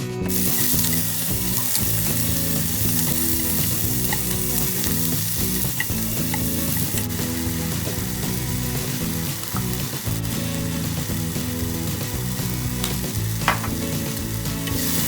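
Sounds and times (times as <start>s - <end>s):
food sizzling in hot oil: 0.3s - 15.0s.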